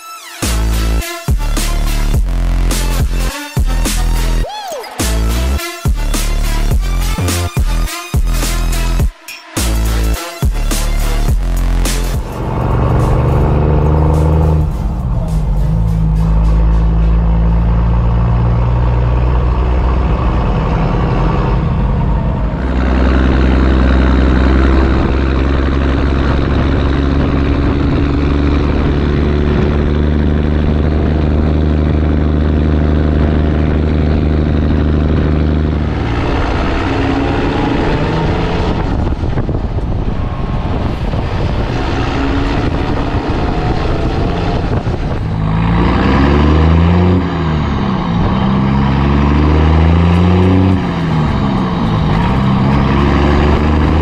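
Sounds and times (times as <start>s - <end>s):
truck diesel engine running: 0.5s - 4.4s, 9.7s - 54.0s.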